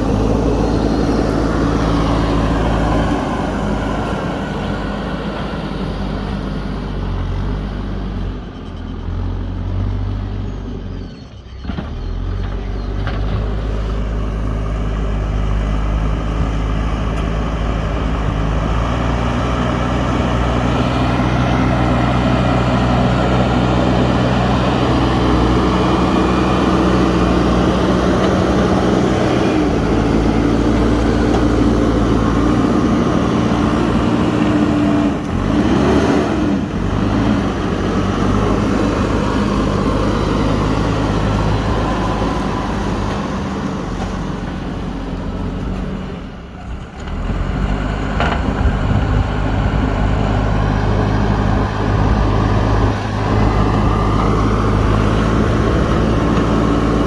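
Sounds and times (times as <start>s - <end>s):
diesel engine under load: 0.0s - 57.0s.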